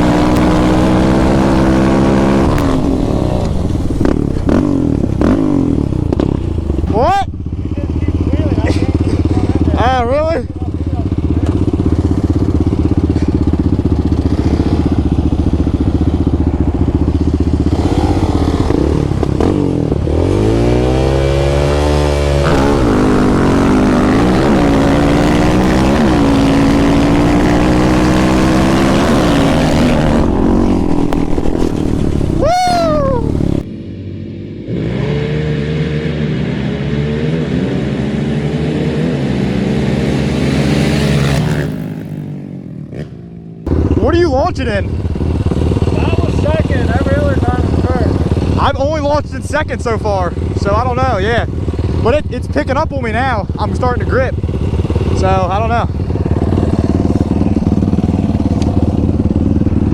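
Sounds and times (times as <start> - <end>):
off-road vehicle accelerating hard: 0.0 - 7.4, 8.2 - 59.9
off-road engine running steadily: 0.0 - 59.9.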